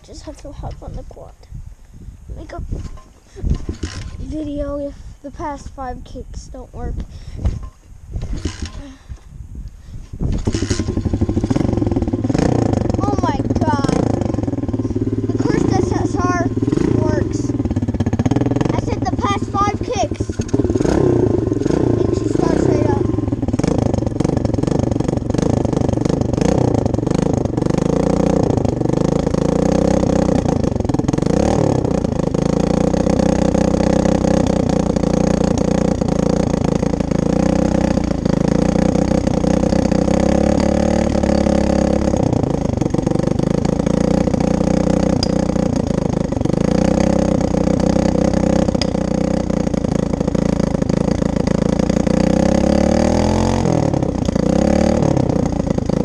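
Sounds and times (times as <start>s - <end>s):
dirt bike engine running: 2.4s - 5.9s, 7.0s - 9.2s, 10.0s - 56.0s.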